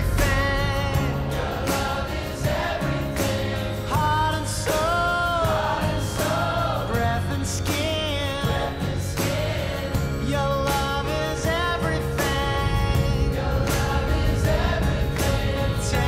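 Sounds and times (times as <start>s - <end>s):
choir-like voices singing held notes: 0.0s - 16.0s
low musical accompaniment: 0.0s - 16.0s.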